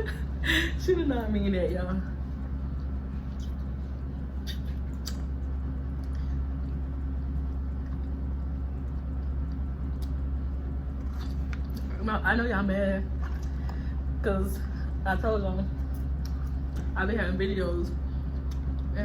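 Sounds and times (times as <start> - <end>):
low rumble with hum: 0.0 - 19.0.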